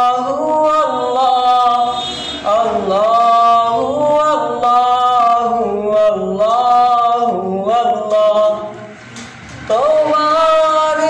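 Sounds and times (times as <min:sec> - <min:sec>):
boy singing unaccompanied: 0:00.0 - 0:08.9, 0:09.7 - 0:11.0.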